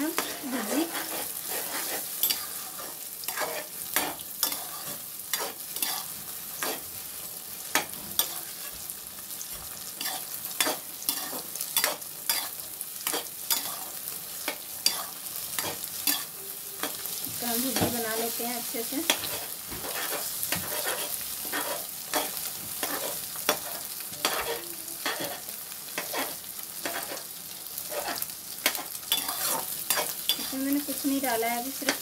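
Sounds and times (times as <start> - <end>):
eggs sizzling in oil: 0.0 - 32.0
spatula scraping pan: 0.0 - 32.0.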